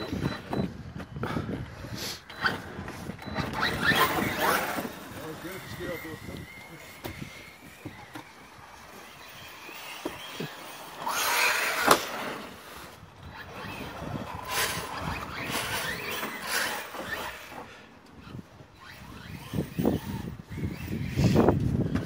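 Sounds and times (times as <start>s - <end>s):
rc car motors whining: 0.0s - 22.0s.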